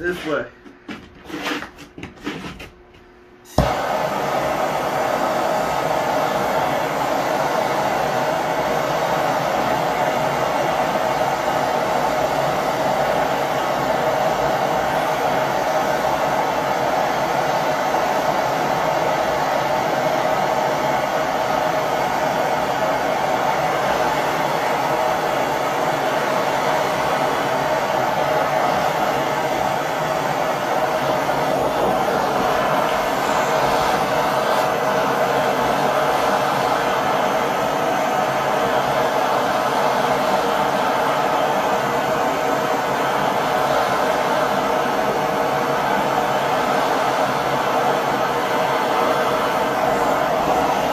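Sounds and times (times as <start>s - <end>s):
gas torch hissing: 3.4s - 50.9s.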